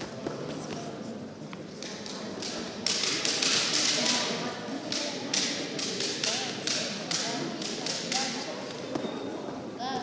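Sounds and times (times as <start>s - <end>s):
crowd noise hiss: 0.0s - 10.0s.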